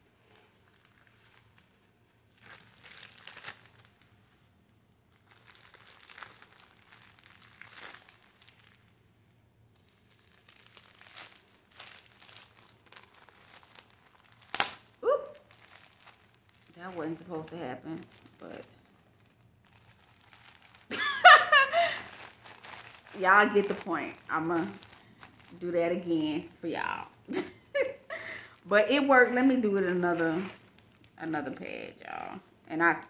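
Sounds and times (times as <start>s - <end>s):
plastic pouch crinkling: 0.2s - 31.2s.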